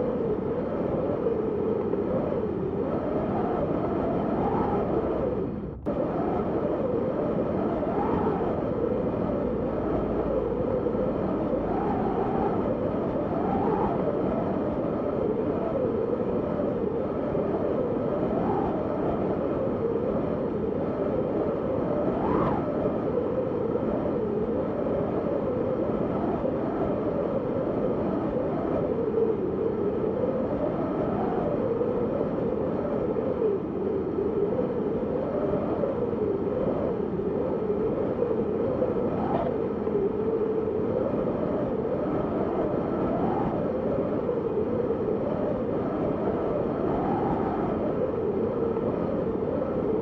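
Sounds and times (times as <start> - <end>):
high wind whistle: 0.0 - 50.0
snowstorm wind blowing: 0.0 - 50.0.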